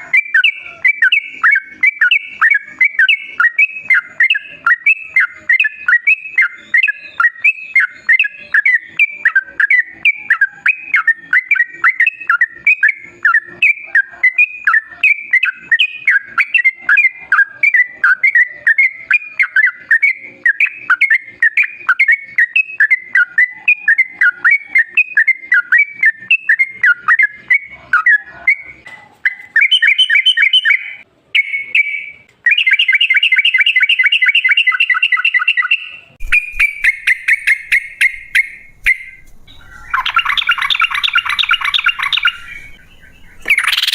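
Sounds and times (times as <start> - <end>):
bulbul singing: 0.0 - 43.9.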